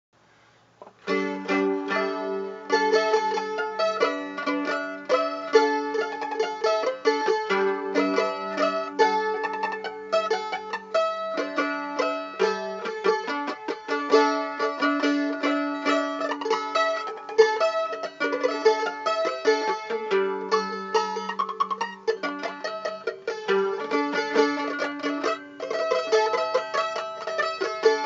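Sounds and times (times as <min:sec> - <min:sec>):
plucked string instrument melody: 0:00.8 - 0:28.0.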